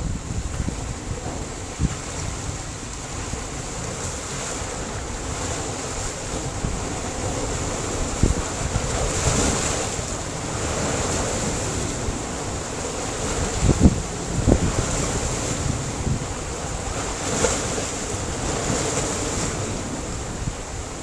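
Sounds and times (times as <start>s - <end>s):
surf on rocky shore: 0.0s - 21.0s
wind buffeting microphone: 0.0s - 21.0s.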